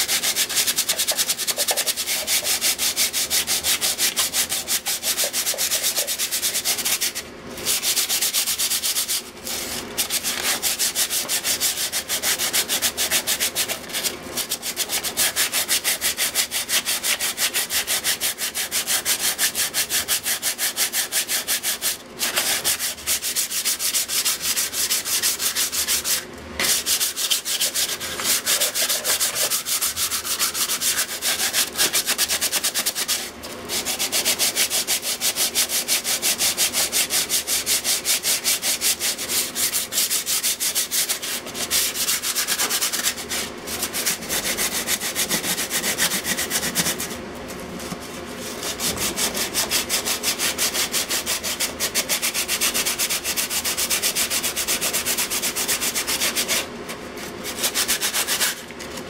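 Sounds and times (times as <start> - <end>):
sandpaper rubbing on metal: 0.0 - 47.2, 48.4 - 56.7, 57.4 - 58.7.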